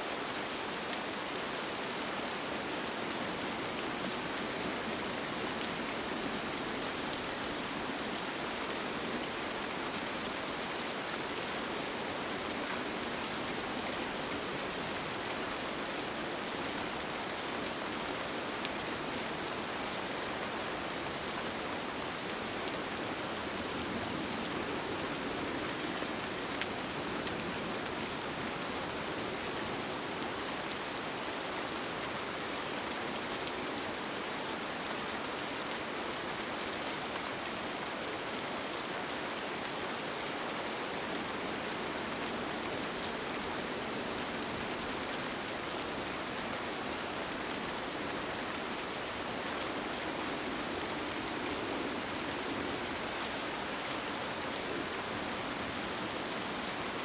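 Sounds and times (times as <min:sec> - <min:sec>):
rain falling on a tent: 0:00.0 - 0:57.0.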